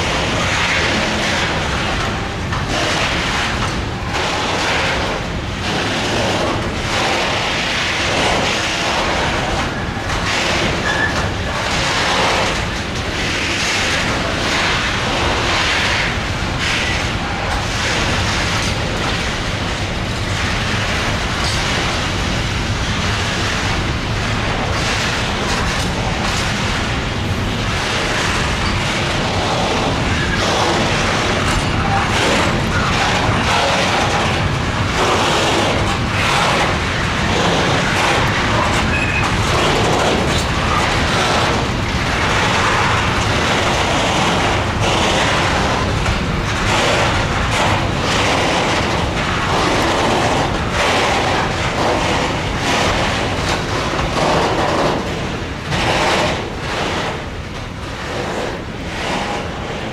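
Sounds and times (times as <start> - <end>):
locomotive rushing noise: 0.0 - 59.9.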